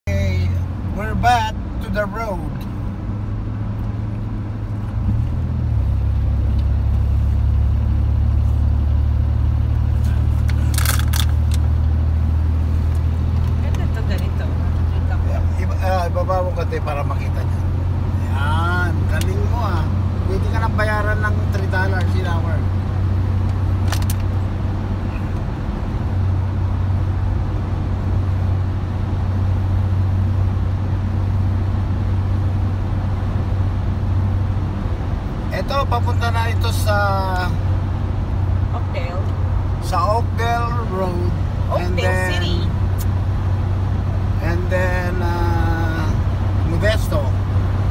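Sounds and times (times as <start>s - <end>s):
car engine rumble: 0.0s - 47.9s
road noise: 0.0s - 47.9s
constant low hum: 0.1s - 47.9s.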